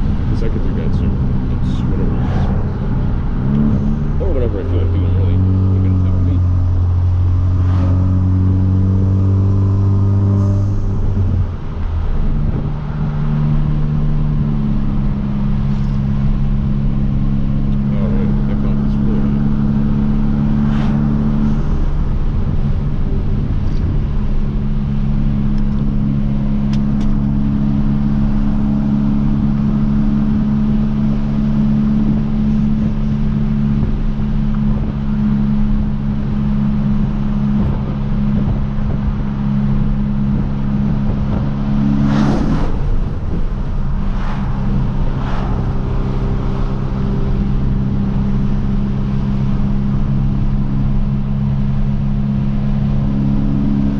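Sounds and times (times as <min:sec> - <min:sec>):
car engine and exhaust droning: 0:00.0 - 0:53.9.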